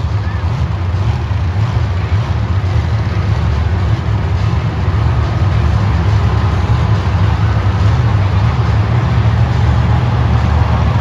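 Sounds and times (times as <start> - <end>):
monster truck engines rumbling: 0.0 - 11.0.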